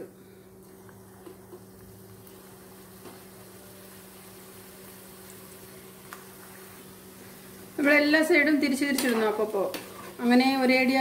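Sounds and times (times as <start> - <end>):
dough sizzling in hot oil: 0.6 - 11.0.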